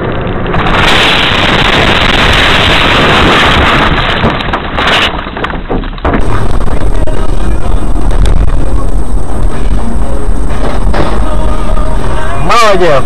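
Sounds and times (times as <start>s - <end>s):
moving vehicle rumble: 0.0s - 13.0s
wind rushing: 0.0s - 13.0s.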